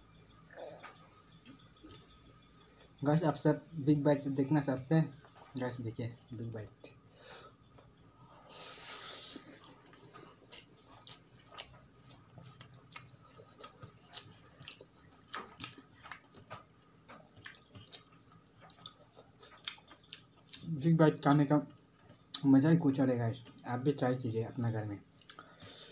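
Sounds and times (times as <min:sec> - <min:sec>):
mouth chewing food: 0:00.2 - 0:22.5, 0:25.0 - 0:25.9.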